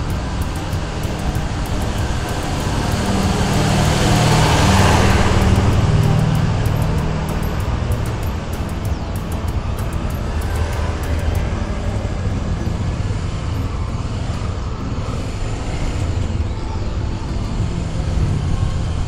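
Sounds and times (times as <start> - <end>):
motorcycle engine running: 0.0 - 19.0
wind rush and road noise: 0.0 - 19.0.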